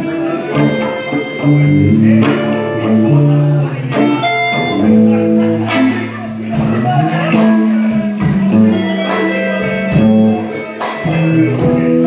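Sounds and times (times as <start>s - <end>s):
live blues band playing: 0.0s - 12.0s.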